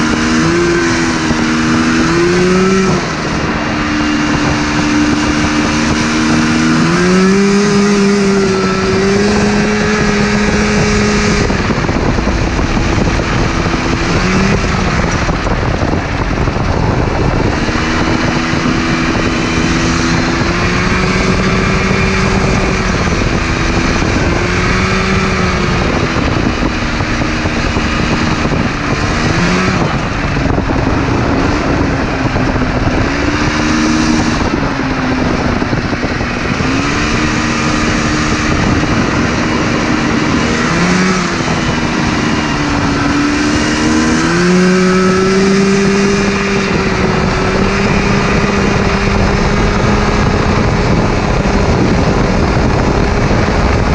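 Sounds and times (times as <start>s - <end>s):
two-stroke engine running under load: 0.0s - 53.9s
wind rushing: 0.0s - 53.9s.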